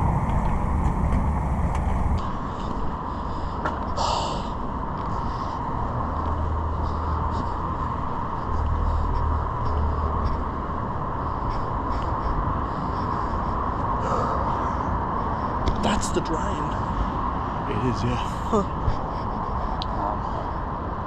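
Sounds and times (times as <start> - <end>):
road traffic hum: 0.0 - 21.0.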